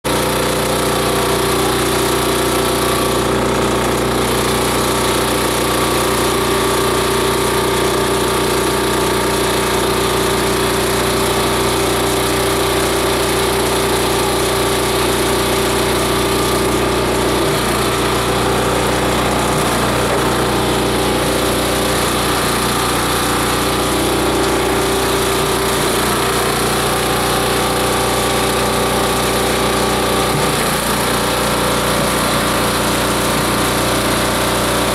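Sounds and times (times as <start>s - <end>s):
shredder machine droning: 0.0s - 34.9s.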